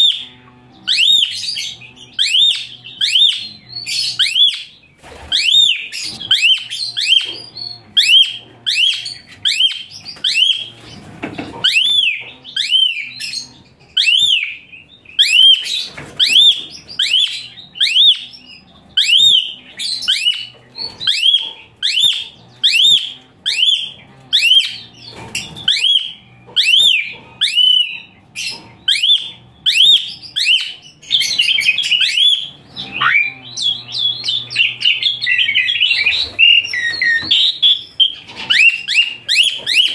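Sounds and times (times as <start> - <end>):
starling singing shrill notes: 0.0 - 11.0, 11.6 - 39.9.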